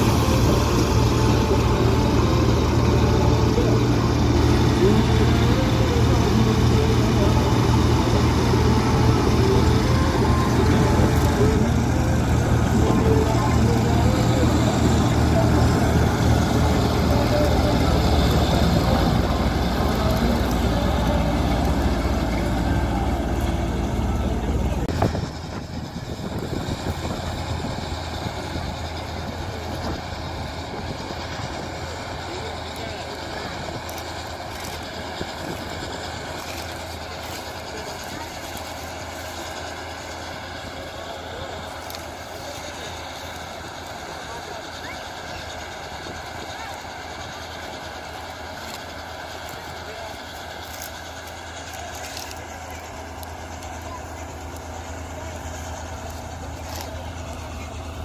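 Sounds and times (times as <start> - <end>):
combine harvester engine humming: 0.0 - 58.0
grain auger unloading: 0.0 - 58.0.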